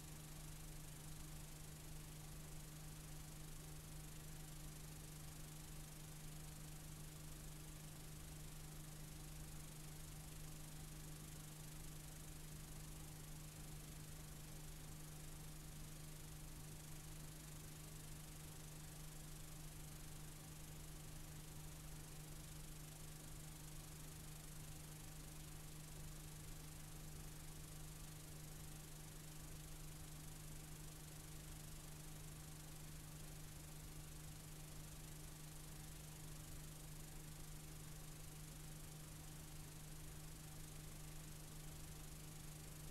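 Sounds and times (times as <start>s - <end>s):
low constant hum: 0.0s - 42.9s.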